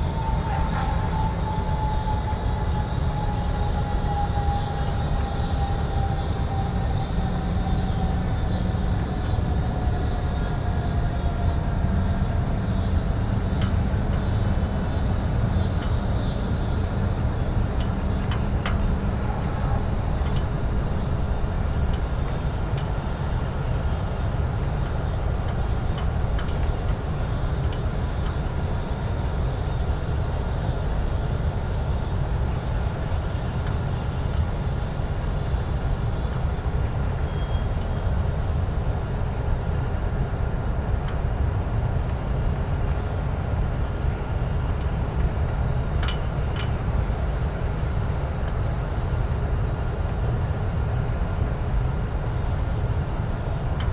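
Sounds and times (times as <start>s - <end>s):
low rumble of traffic: 0.0s - 53.9s.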